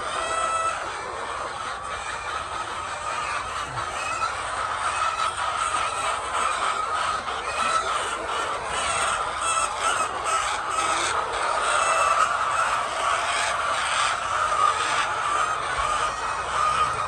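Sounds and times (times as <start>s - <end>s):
flock of hens clucking: 0.0s - 17.0s.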